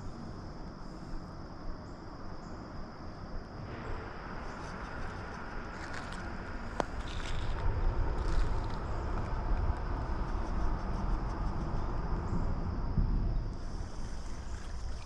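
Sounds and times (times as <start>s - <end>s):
creek-side outdoor background noise: 0.0s - 15.0s.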